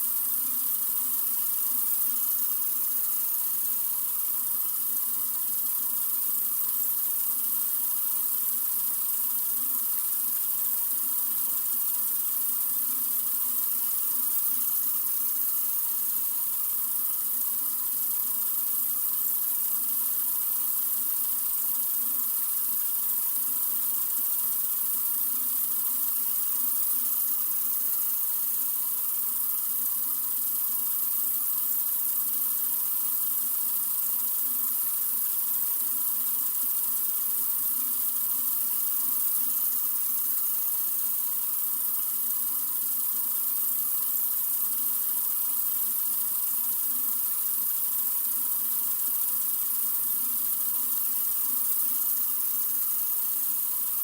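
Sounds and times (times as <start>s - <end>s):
water running from faucet: 0.0s - 54.0s.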